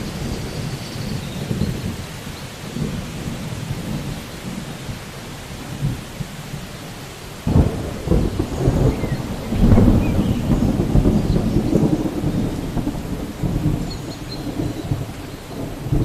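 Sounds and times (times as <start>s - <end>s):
thunderclap rolling rumble: 0.0s - 6.8s, 7.4s - 16.0s
steady rain: 0.0s - 16.0s.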